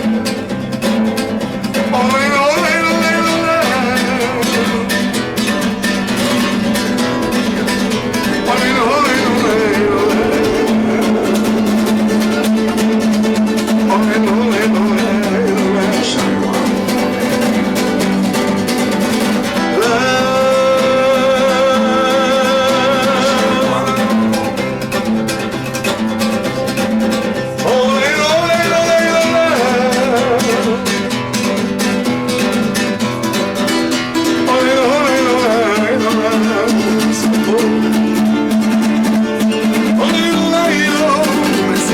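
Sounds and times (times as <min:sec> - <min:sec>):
acoustic guitar: 0:00.0 - 0:41.9
man singing: 0:01.6 - 0:25.2, 0:27.4 - 0:31.8, 0:34.2 - 0:41.9.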